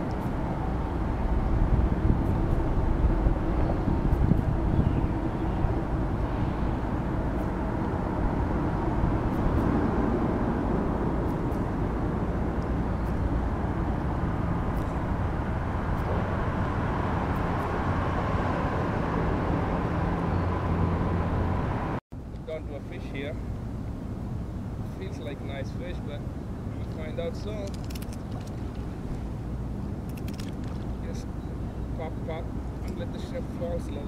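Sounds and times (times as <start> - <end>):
passing vehicle hum: 0.0 - 34.0
traffic rumble on bridge: 0.0 - 34.0.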